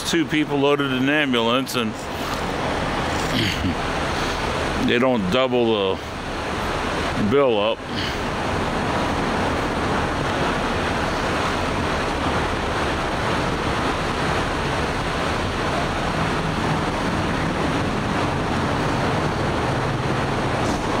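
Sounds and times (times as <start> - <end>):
road traffic roar: 0.0 - 21.0.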